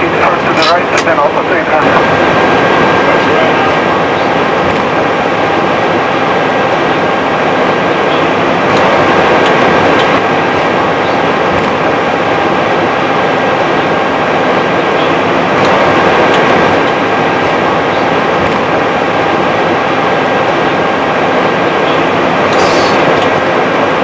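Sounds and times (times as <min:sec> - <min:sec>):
airflow and engines hissing: 0:00.0 - 0:24.0.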